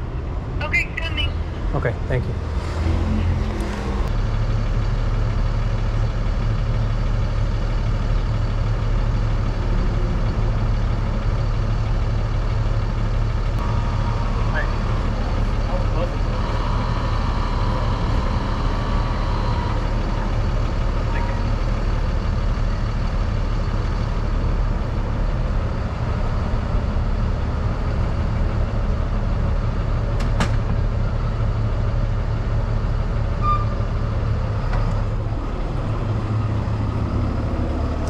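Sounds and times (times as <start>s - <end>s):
city traffic rumble: 0.0s - 38.0s.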